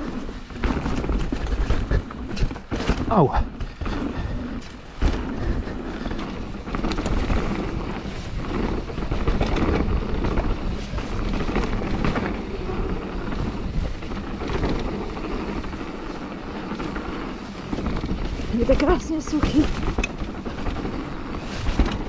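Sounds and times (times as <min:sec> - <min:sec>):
bike rattling knocks: 0:00.0 - 0:22.0
tyre rumble: 0:00.0 - 0:22.0
wind buffeting microphone: 0:00.0 - 0:22.0.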